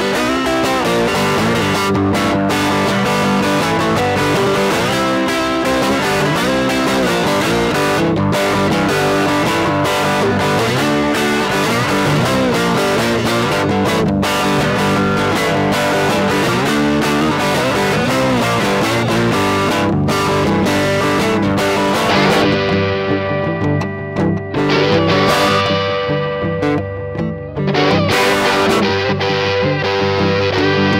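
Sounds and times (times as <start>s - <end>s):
blues music with guitar: 0.0s - 30.9s.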